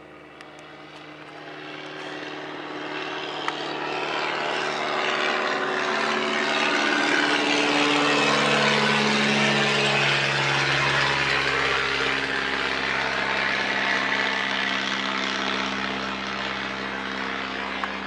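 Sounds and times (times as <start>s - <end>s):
propeller aircraft engine droning: 0.0s - 18.0s.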